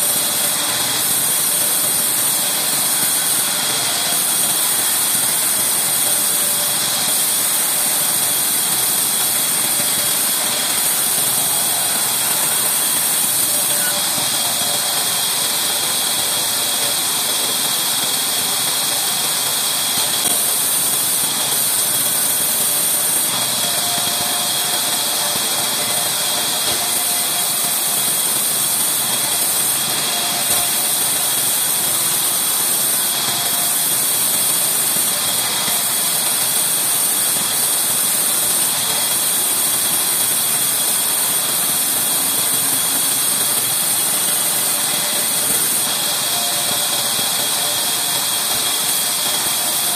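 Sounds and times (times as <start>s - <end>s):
band saw cutting wood: 0.0s - 49.9s.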